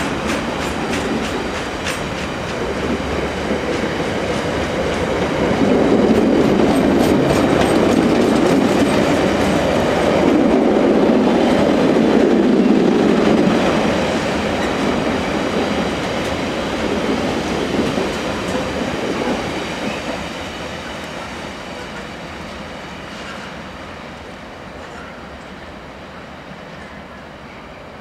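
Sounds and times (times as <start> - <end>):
freight train wheels rolling: 0.0 - 23.8.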